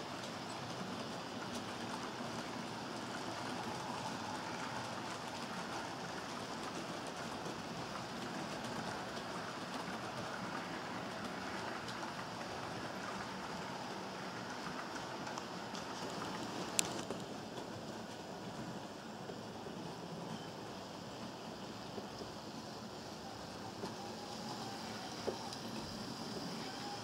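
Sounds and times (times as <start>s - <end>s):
model train wheels rolling on rails: 0.0s - 27.0s.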